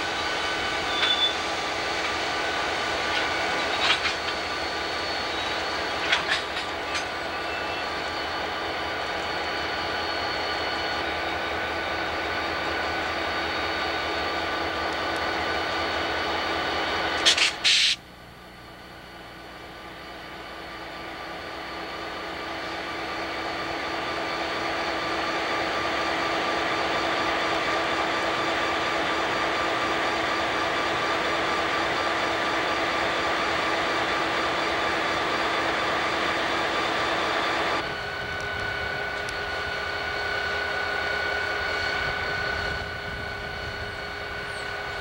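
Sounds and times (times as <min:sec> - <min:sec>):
high even whine: 0:00.0 - 0:26.6, 0:32.1 - 0:45.0
diesel locomotive engine drone: 0:00.0 - 0:45.0.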